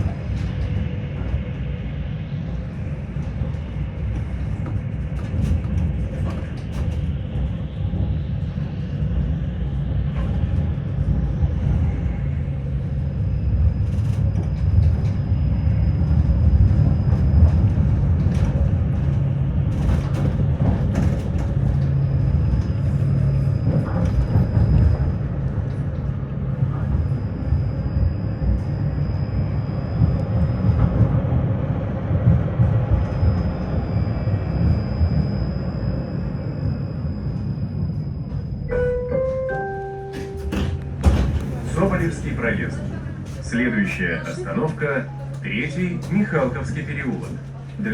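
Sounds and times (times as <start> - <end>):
tram wheels rumbling on rails: 0.0 - 47.9.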